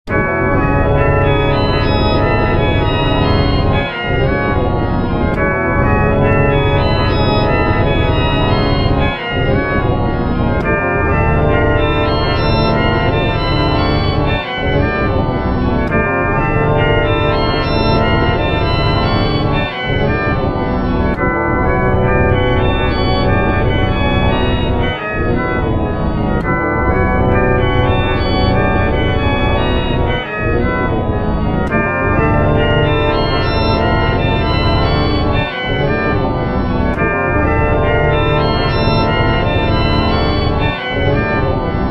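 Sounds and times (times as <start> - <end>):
dense organ-like sustained chords: 0.1 - 41.9.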